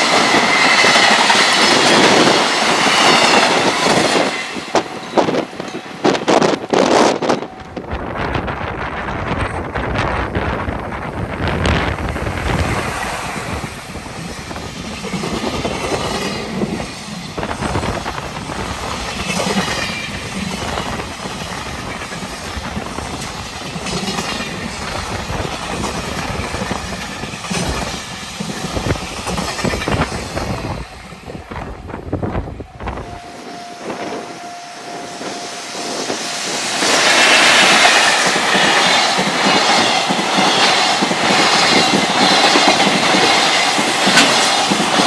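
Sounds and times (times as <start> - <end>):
train wheels clattering over rail joints: 0.0 - 7.9, 11.6 - 32.4, 36.8 - 45.0
wind noise on microphone: 0.0 - 45.0.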